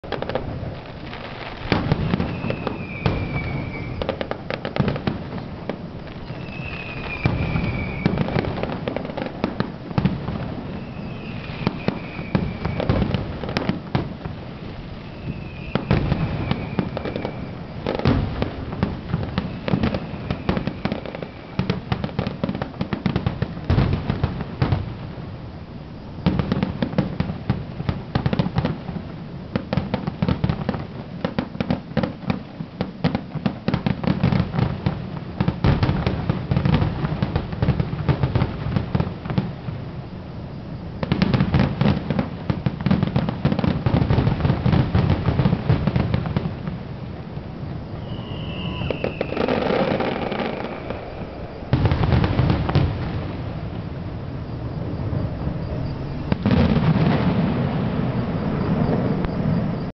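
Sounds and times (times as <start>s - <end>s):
fireworks bangs and crackles: 0.0s - 59.9s
falling firework whistle: 0.1s - 59.9s.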